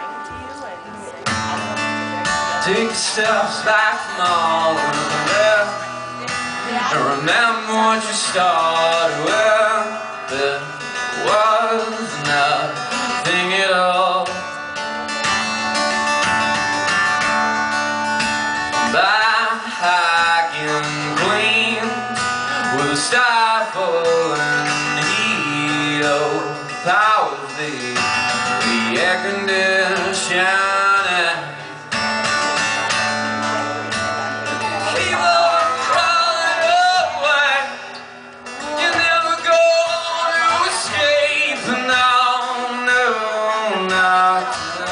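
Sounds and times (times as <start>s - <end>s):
guitar strumming and picking: 0.0s - 44.9s
man singing into microphone: 2.2s - 14.6s, 18.7s - 32.0s, 33.7s - 44.9s.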